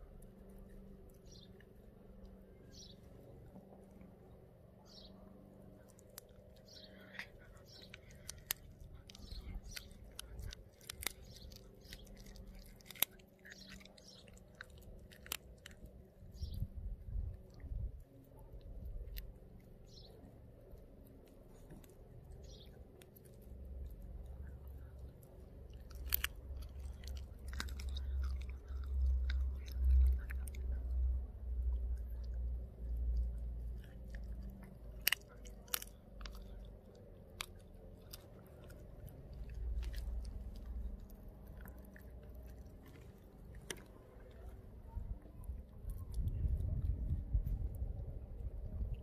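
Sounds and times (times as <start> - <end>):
dog chewing and crunching bones: 0.0 - 49.0
low rumble: 0.0 - 49.0.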